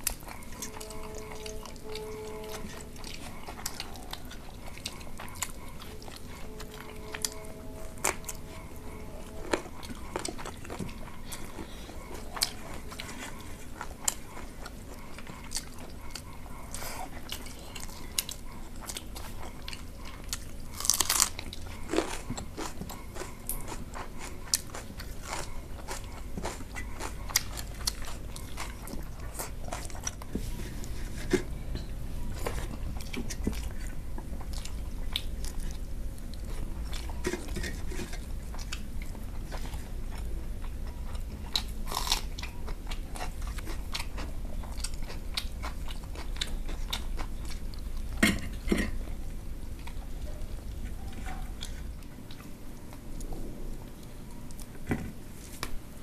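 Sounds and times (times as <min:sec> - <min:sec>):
chewing and biting food: 0:00.0 - 0:56.0
low steady hum: 0:00.0 - 0:56.0.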